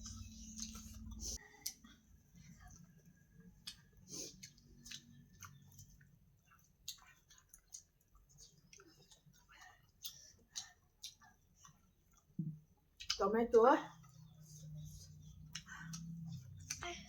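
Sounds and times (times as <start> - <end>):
person chewing: 0.0 - 13.2, 14.0 - 17.0.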